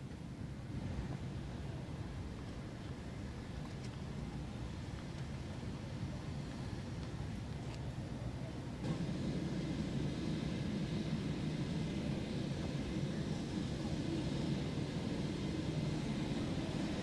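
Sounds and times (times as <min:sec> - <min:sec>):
jet aircraft rumble: 0:00.7 - 0:17.0.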